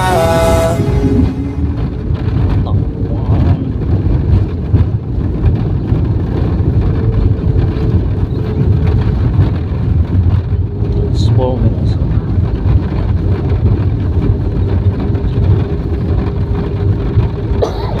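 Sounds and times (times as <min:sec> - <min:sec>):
airliner landing rumble: 0:00.0 - 0:18.0.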